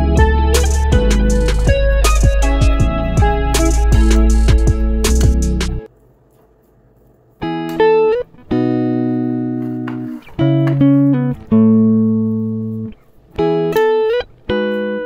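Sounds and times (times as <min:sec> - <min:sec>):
slow plucked guitar: 0:00.0 - 0:05.9, 0:07.4 - 0:15.0.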